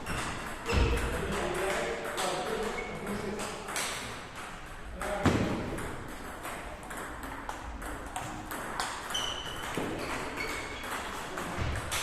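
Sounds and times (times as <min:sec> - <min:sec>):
table tennis balls clicking: 0:00.0 - 0:12.0.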